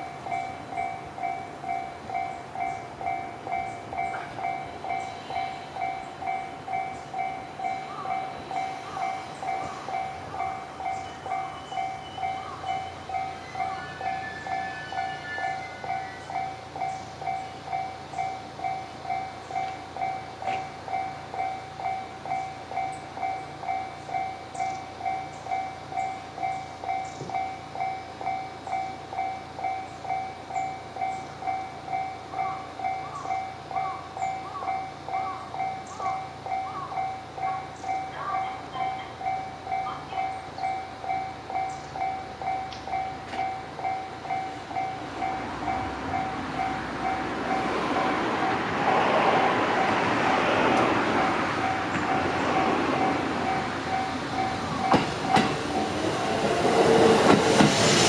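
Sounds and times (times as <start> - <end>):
level crossing bell ringing: 0.0 - 48.6
train rumble: 0.0 - 58.0.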